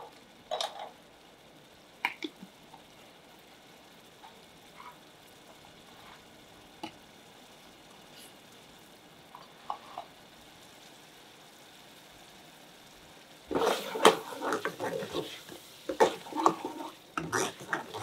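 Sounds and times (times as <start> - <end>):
curry base sizzling in oil: 0.0 - 18.0.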